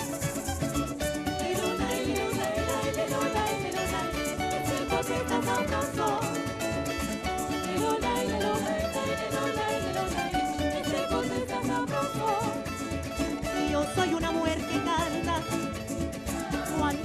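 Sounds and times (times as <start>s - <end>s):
percussion rhythm: 0.0s - 17.0s
string band playing: 0.0s - 17.0s.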